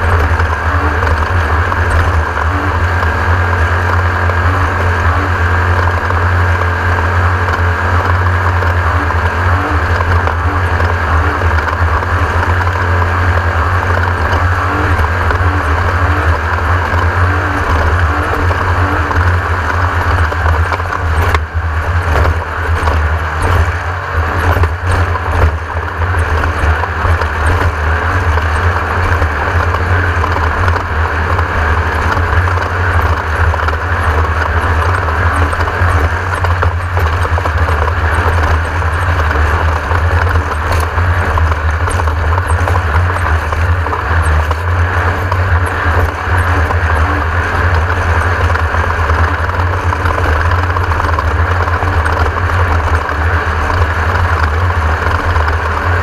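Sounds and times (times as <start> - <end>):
car rushing over rough ground: 0.0 - 56.0
race car engine droning: 0.0 - 56.0.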